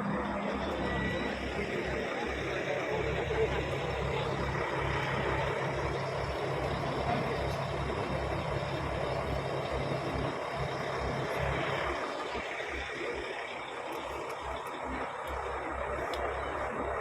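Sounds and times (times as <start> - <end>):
outboard motors running at speed: 0.0 - 17.0.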